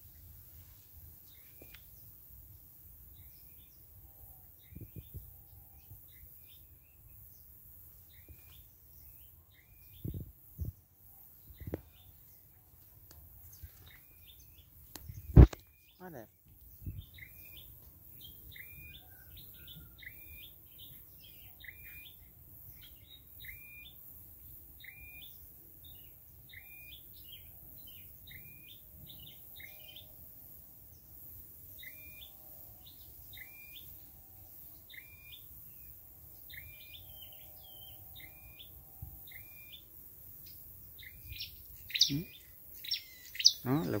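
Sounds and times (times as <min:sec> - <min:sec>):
songbird chirping: 0:00.0 - 0:44.0.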